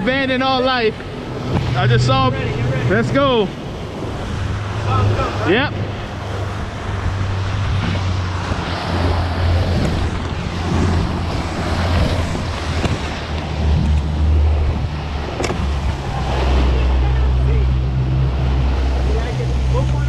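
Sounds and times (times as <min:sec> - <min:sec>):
boat wake rushing: 0:00.0 - 0:20.0
outboard motors droning: 0:00.0 - 0:20.0
wind buffeting microphone: 0:00.0 - 0:20.0.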